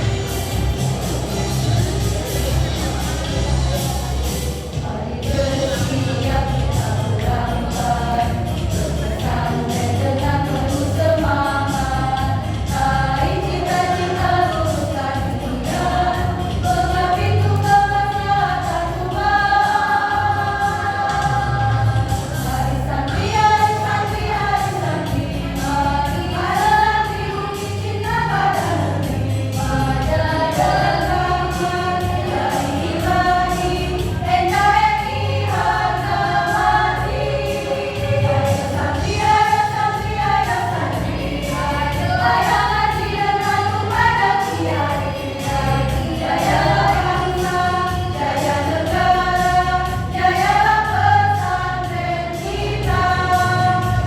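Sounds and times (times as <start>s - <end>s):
steady low beat: 0.0s - 54.0s
choir singing a march: 4.7s - 54.0s.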